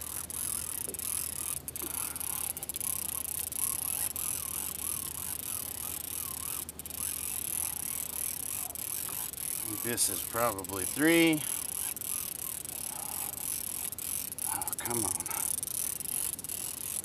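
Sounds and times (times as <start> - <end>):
fishing reel being cranked: 0.0 - 17.0.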